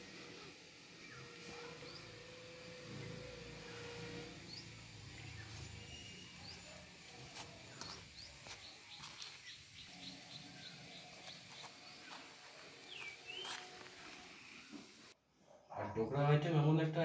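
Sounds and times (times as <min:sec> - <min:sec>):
birds chirping: 0:00.6 - 0:15.1.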